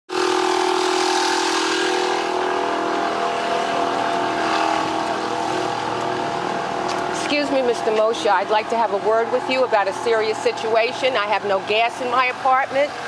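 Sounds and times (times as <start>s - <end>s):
engine droning: 0.1s - 13.0s.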